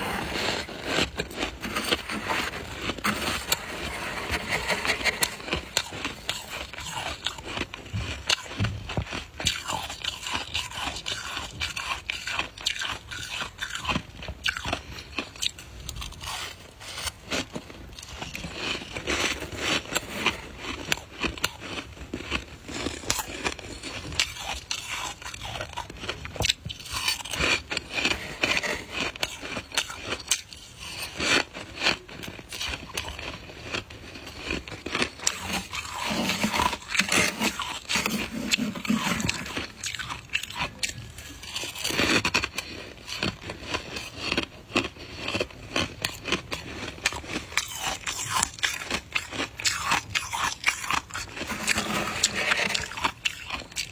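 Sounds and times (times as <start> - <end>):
crunching ice: 0.0 - 53.9.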